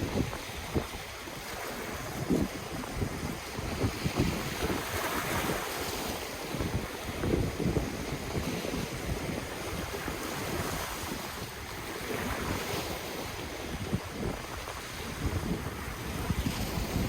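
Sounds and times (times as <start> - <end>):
ocean waves washing on shore: 0.0 - 17.0
wind buffeting microphone: 0.0 - 17.0.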